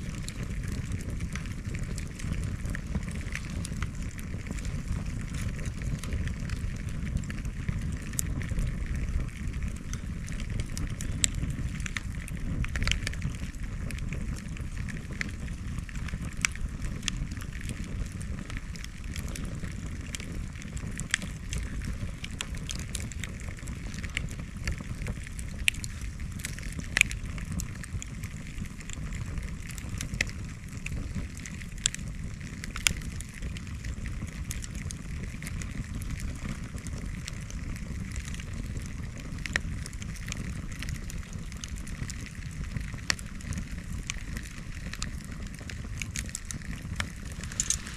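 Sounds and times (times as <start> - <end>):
bonfire crackling and popping: 0.0 - 47.9
low steady rumble: 0.0 - 47.9.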